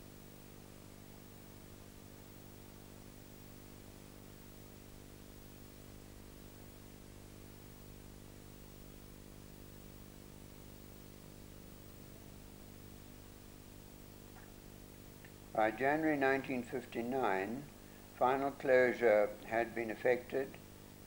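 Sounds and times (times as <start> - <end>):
faint steady hiss: 0.0 - 21.0
low constant hum: 0.0 - 21.0.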